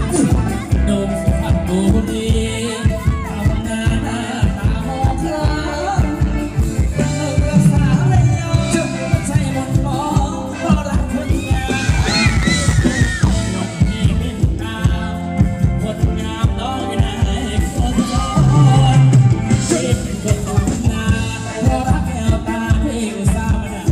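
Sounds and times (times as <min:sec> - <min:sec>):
band playing dance music: 0:00.0 - 0:23.9
person singing: 0:00.0 - 0:23.9
steady drum beat: 0:00.0 - 0:23.9.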